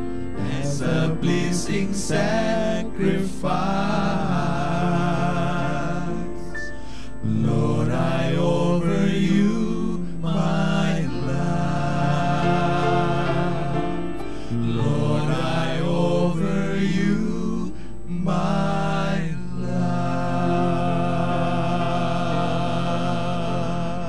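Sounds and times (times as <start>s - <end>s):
male vocal quartet singing: 0.0s - 24.0s
piano accompaniment: 0.0s - 24.0s.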